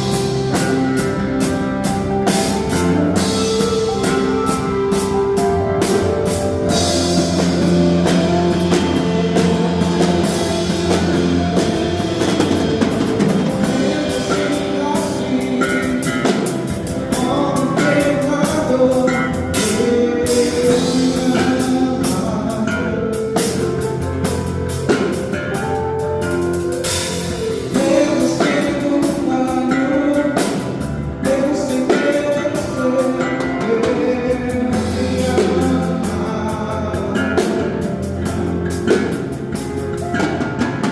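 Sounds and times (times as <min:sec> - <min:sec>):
person singing: 0:00.0 - 0:39.2
bass guitar: 0:00.0 - 0:40.9
drum kit: 0:00.0 - 0:40.9
electric guitar: 0:00.0 - 0:40.9.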